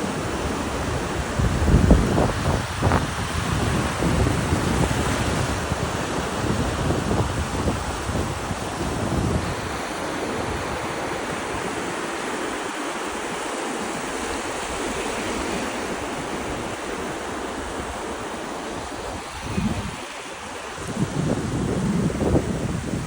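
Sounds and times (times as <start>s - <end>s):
sea surf rushing: 0.0s - 23.0s
wind buffeting microphone: 0.0s - 23.0s.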